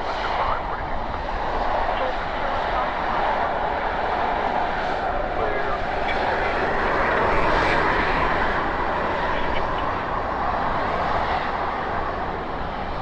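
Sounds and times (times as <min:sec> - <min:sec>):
jet airliner engine rush: 0:00.0 - 0:13.0.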